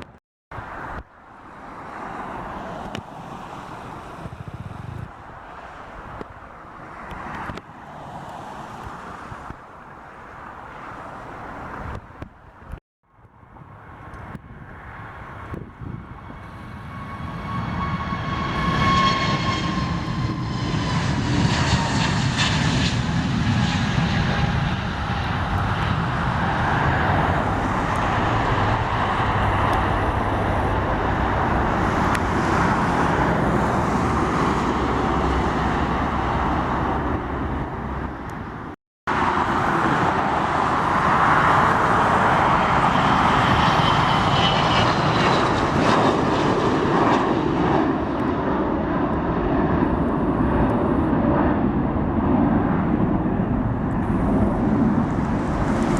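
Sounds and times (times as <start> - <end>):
jet engines passing: 0.0 - 12.8, 13.4 - 55.9.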